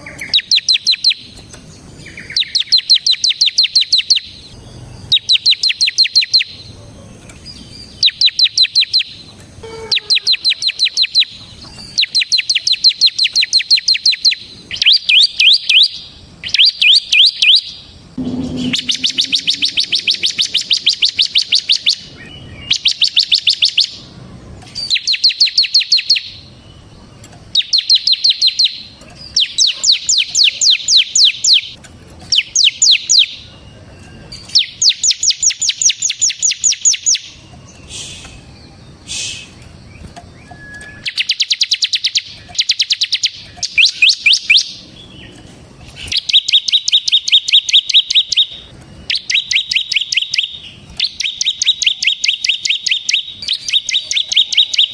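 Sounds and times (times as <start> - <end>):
bird singing rapid trill: 0.0 - 24.2, 24.8 - 54.9.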